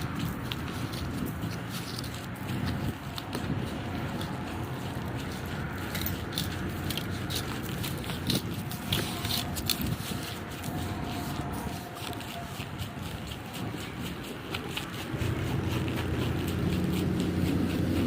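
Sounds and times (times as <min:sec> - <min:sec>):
snow crunching and scraping: 0:00.0 - 0:18.0
steady low rumble: 0:00.0 - 0:18.0.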